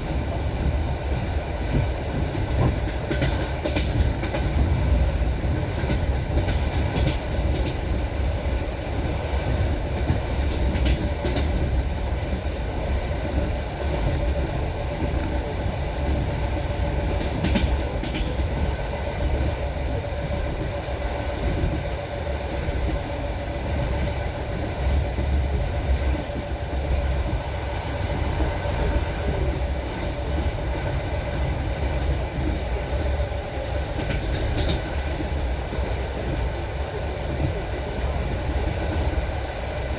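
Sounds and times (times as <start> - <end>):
train wheels clattering: 0.0 - 20.7, 23.7 - 36.6.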